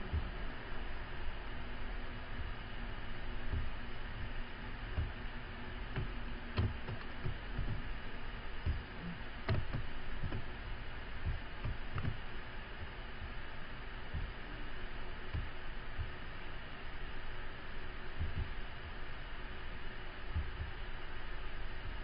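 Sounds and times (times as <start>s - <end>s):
background hiss and hum: 0.0s - 22.0s.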